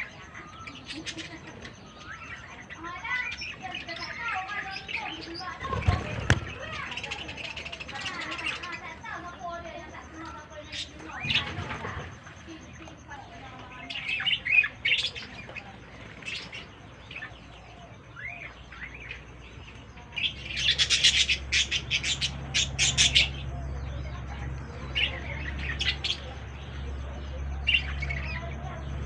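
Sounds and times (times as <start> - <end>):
budgerigars chirping: 0.0 - 29.0
low steady hum: 0.0 - 29.0.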